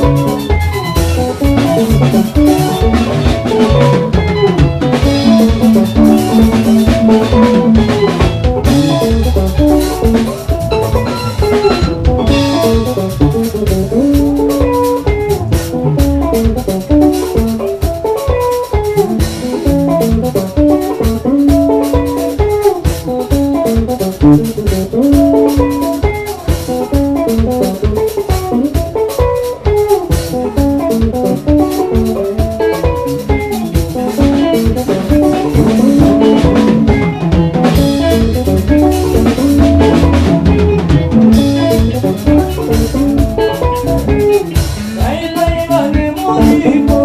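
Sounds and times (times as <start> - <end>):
drum kit beat: 0.0 - 47.0
electric guitar lines: 0.0 - 47.0.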